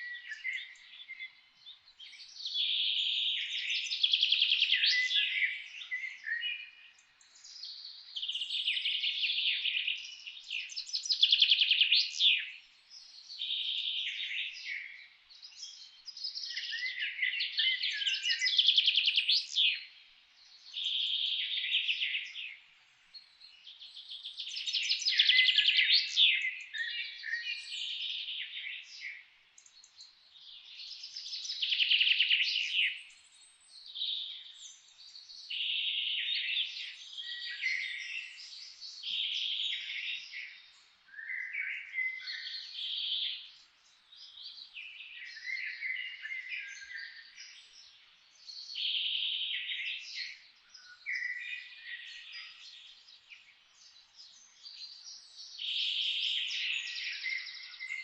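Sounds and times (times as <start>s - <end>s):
songbird trills and whistles: 0.0s - 58.0s.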